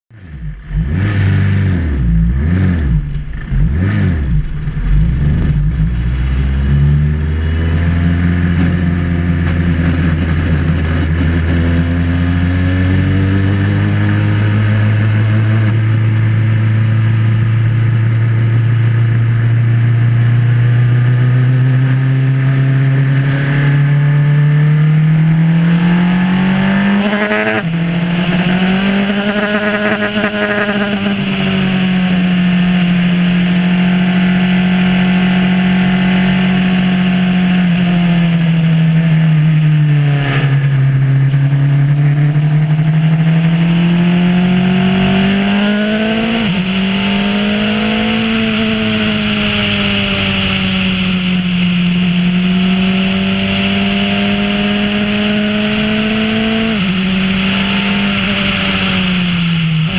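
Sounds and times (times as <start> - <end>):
racing car engine revving: 0.2 - 59.9.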